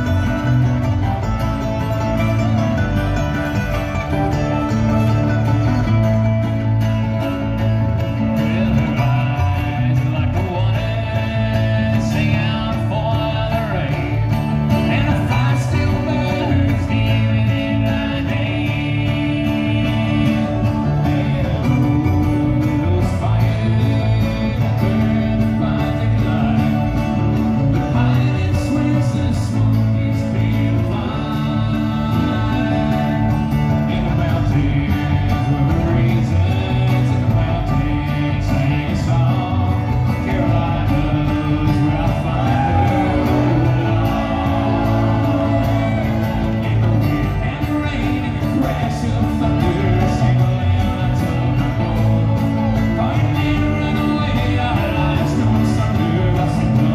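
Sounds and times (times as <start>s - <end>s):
bluegrass band playing: 0.0s - 56.9s
upright bass line: 0.0s - 56.9s.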